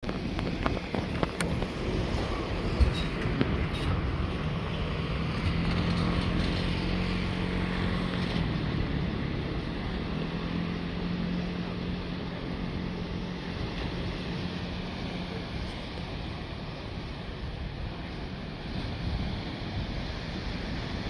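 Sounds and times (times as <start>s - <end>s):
wind blowing across microphone: 0.0s - 21.0s.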